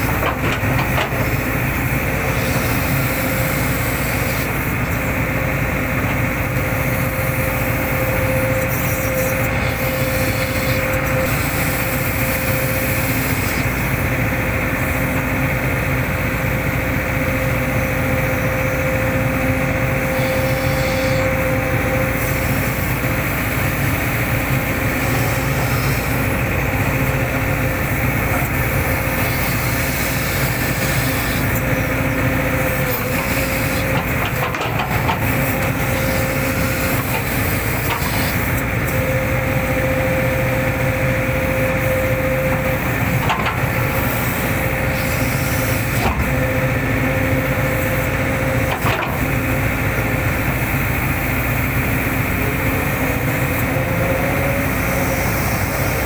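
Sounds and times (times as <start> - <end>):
excavator diesel engine running: 0.0 - 56.0
steady whine: 0.0 - 56.0.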